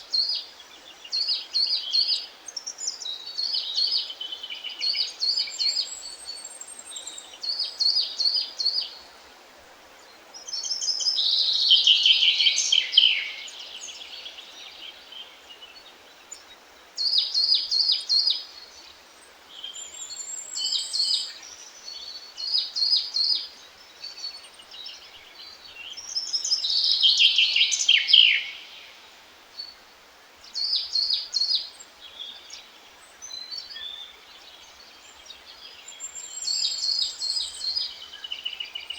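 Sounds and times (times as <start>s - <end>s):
faint hiss: 0.0s - 38.9s
songbirds singing: 0.0s - 38.9s.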